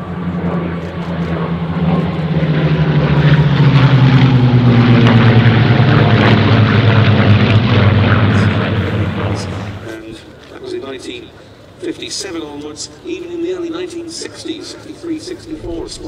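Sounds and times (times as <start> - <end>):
propeller aircraft passing: 0.0 - 16.0.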